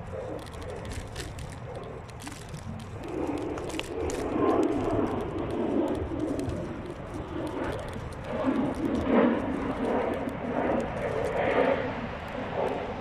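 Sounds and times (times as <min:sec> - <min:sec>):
electric scooter rattling: 0:00.0 - 0:13.0.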